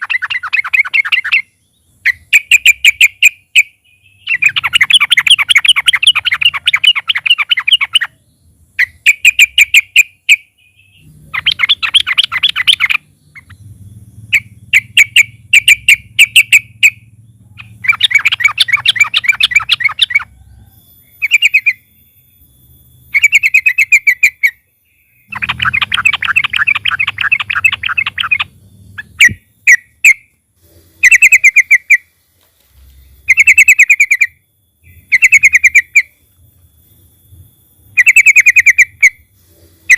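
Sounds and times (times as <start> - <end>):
bird singing chattering notes: 0.0 - 30.3, 31.0 - 32.1, 32.8 - 39.9.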